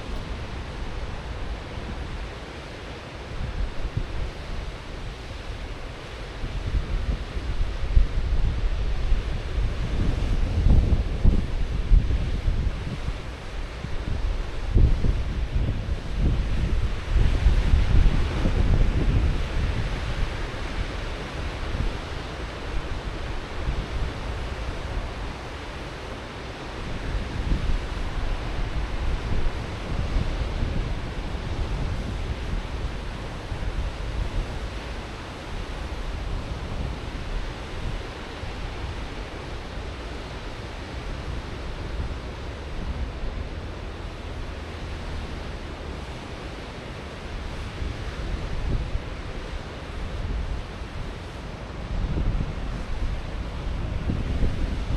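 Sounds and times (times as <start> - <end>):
wind buffeting microphone: 0.0 - 25.6, 26.8 - 54.9
ocean waves breaking on shore: 0.0 - 54.9.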